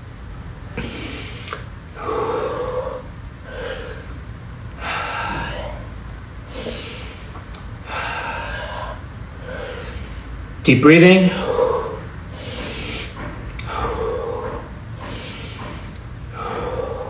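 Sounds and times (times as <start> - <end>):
man breathing deeply: 0.7 - 17.0.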